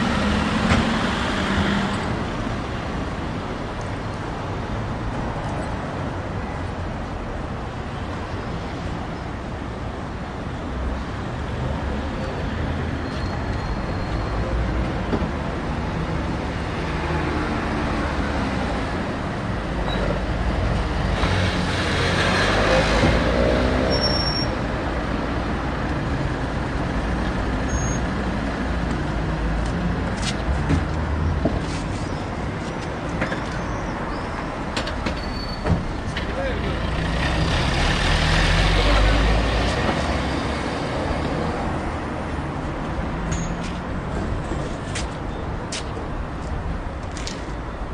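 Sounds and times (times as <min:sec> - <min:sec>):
city traffic noise: 0:00.0 - 0:47.9.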